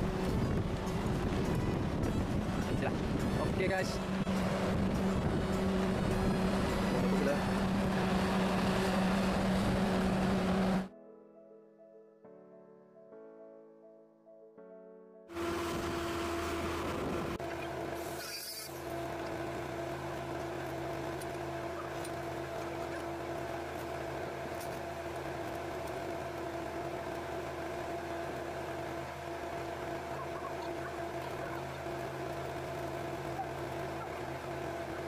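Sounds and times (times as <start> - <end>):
machinery droning: 0.0 - 10.9, 15.3 - 35.0.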